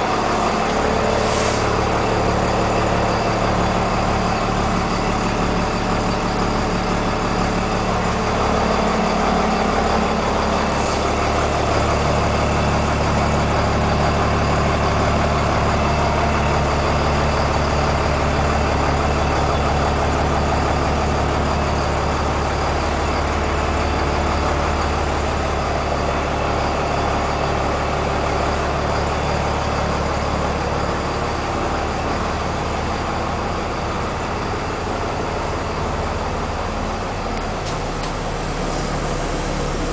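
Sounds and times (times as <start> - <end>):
bus diesel engine idling: 0.0 - 39.9.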